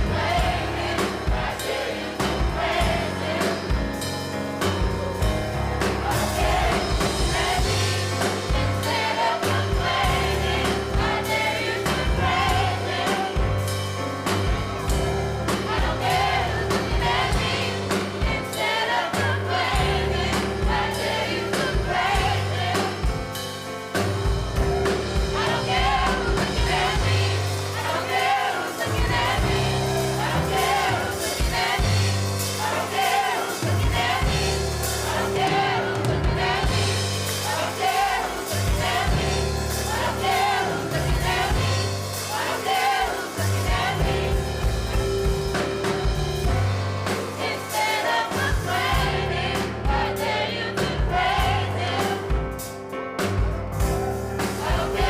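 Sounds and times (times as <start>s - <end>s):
gospel choir singing: 0.0s - 52.8s, 53.8s - 55.0s
bass and drums beat: 0.0s - 55.0s.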